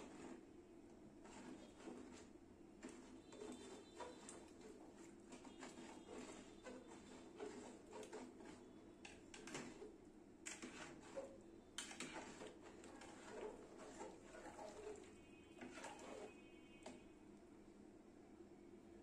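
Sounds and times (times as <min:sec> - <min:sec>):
metal spoon scraping pot: 0:00.0 - 0:00.4, 0:01.2 - 0:09.9, 0:10.5 - 0:17.0.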